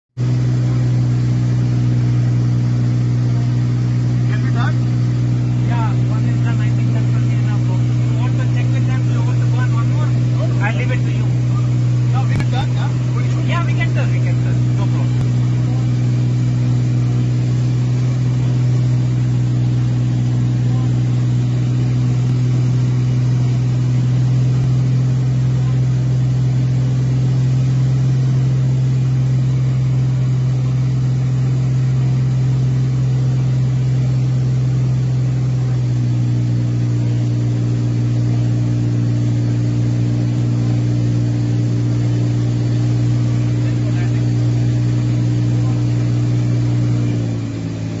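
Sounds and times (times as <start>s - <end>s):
engine drone: 0.0s - 48.0s.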